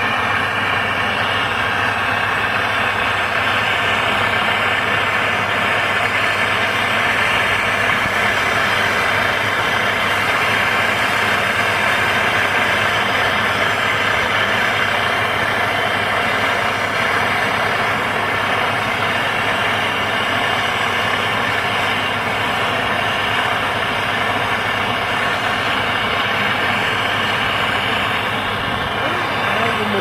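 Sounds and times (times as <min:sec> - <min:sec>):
mechanical running noise: 0:00.0 - 0:30.0.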